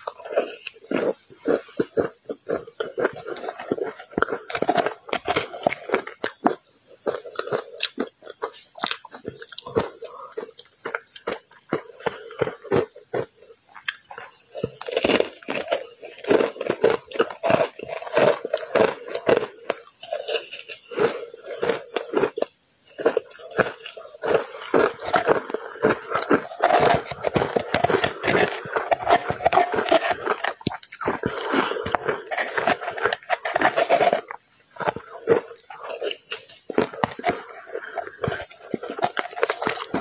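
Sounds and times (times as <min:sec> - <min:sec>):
chewing frozen ice crunches: 0:00.0 - 0:40.0.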